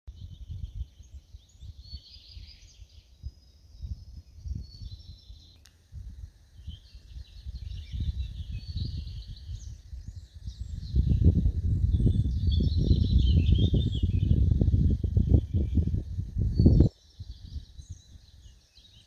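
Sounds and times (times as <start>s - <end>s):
small birds chirping: 0.1s - 19.0s
wind gusting on microphone: 0.1s - 19.0s.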